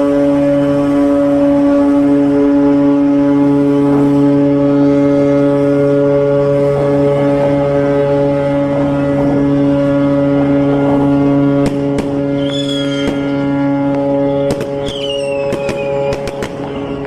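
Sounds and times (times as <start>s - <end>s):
ship's horn blowing: 0.0s - 17.0s.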